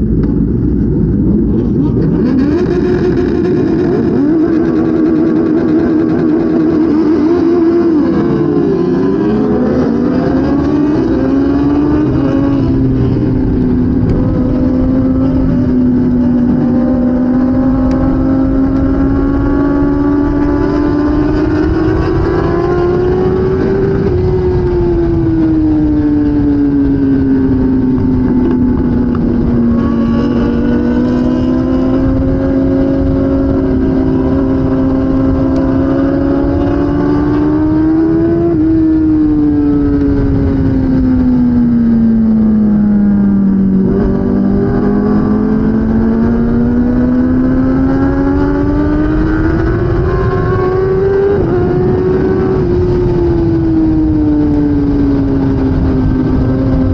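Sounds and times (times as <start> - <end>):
motorcycle engine running hard: 0.0 - 56.9.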